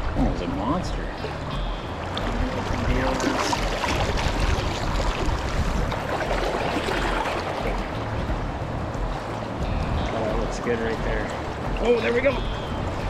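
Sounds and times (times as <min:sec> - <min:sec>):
low rumble: 0:00.0 - 0:11.8
river water rushing: 0:00.0 - 0:13.0.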